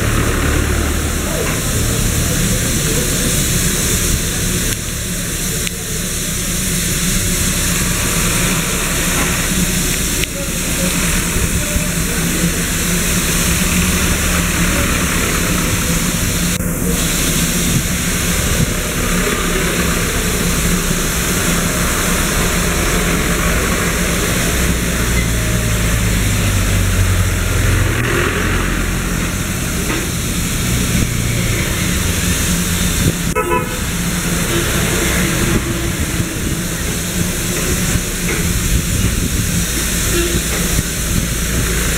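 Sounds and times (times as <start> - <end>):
steam hissing from locomotive: 0.0 - 41.9.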